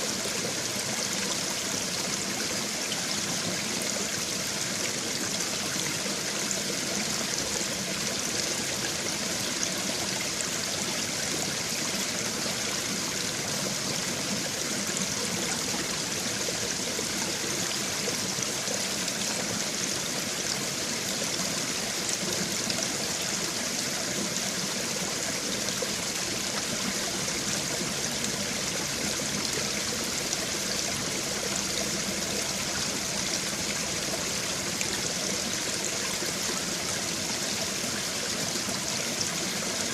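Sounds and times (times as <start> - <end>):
brook water trickling over stones: 0.0 - 39.9.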